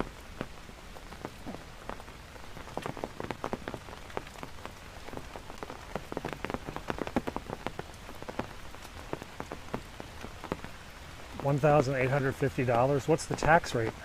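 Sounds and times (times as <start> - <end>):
heavy rain falling: 0.0 - 14.0
raindrops tapping: 0.0 - 14.0.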